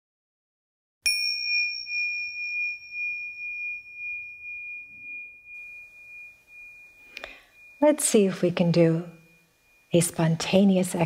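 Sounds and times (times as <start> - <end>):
bell-like chime: 1.1 - 11.0.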